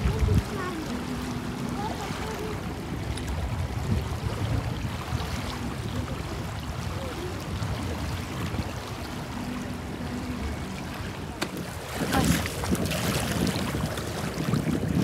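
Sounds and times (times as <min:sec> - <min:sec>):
small waves lapping on shore: 0:00.0 - 0:15.0
wind rumble on microphone: 0:00.0 - 0:15.0.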